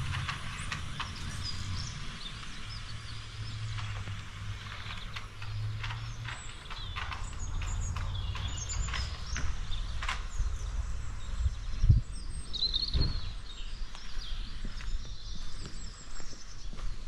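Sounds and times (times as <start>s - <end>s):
low outdoor rumble: 0.0s - 14.2s
songbirds chirping: 0.0s - 17.0s.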